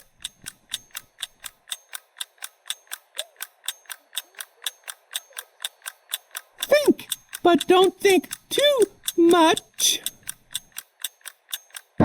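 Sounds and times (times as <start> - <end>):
clock ticking fast: 0.0 - 12.0.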